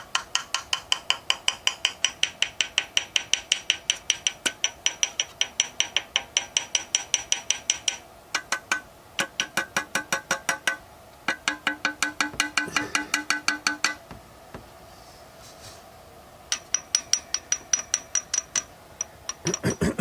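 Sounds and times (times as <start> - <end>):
metallic tapping on engine parts: 0.1 - 14.8, 16.5 - 20.0.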